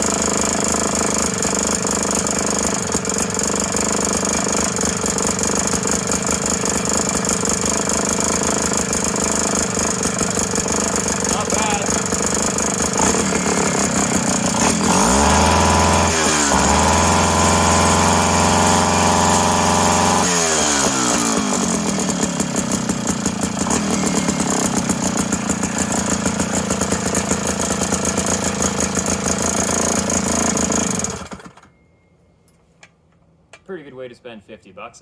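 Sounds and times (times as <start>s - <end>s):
two-stroke engine revving and idling: 0.0s - 31.7s.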